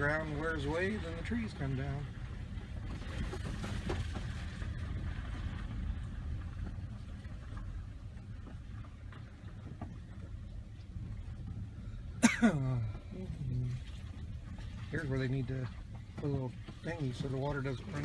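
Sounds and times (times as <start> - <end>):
car driving on gravel: 0.0 - 18.0.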